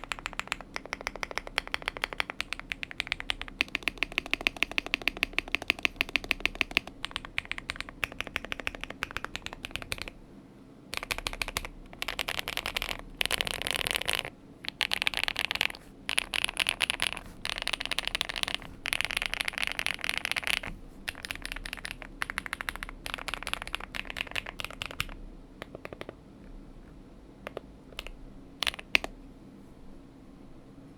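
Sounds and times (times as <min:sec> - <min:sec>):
mechanical keyboard typing: 0:00.0 - 0:10.2, 0:10.9 - 0:26.2, 0:27.5 - 0:29.1.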